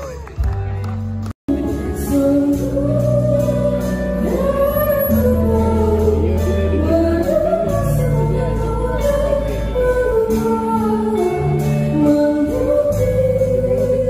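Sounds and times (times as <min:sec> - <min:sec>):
drums: 0:00.0 - 0:14.0
electric bass: 0:00.0 - 0:14.0
keyboard: 0:00.0 - 0:14.0
woman singing into a microphone: 0:01.5 - 0:14.0.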